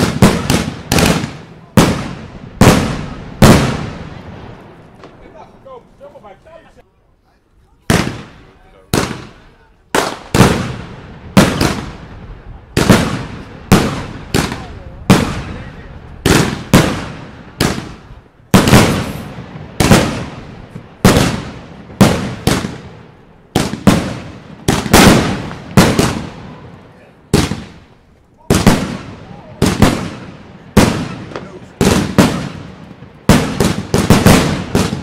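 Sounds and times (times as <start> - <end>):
fireworks banging: 0.0 - 6.6, 7.8 - 35.0.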